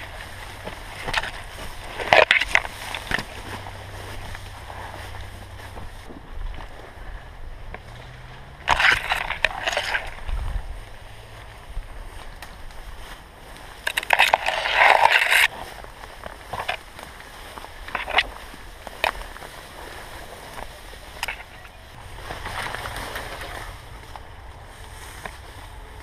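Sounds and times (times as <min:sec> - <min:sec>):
grass and brush rustling: 0:00.0 - 0:26.0.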